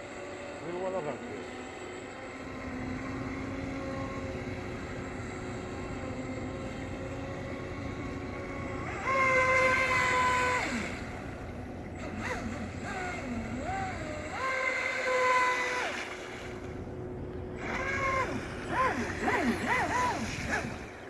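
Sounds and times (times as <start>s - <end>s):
speedboat engine revving: 0.0s - 21.0s.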